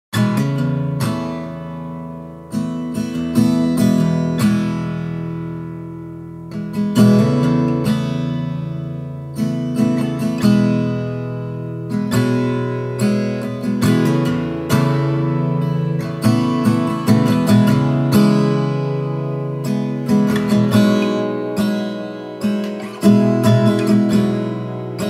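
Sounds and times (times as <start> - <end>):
acoustic guitar strumming chords: 0.2 - 25.0.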